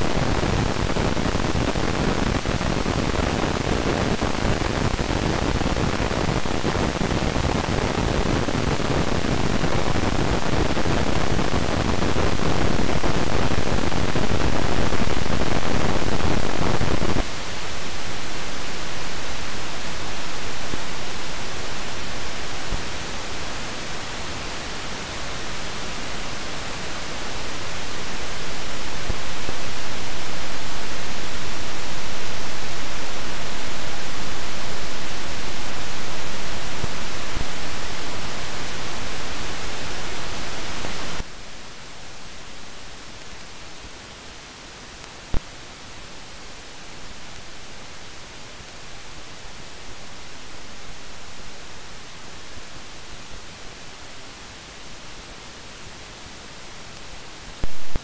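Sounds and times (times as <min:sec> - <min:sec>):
electrical hiss with pops and crackles: 0:00.0 - 0:58.0.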